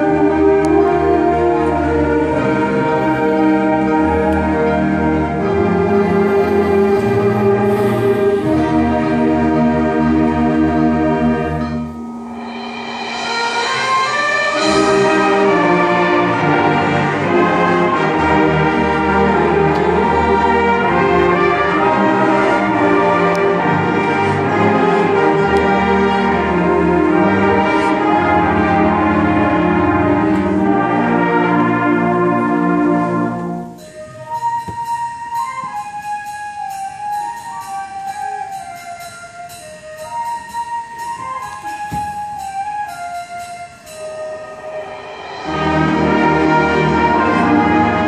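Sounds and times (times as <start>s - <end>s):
concert band playing chords: 0.0s - 48.0s.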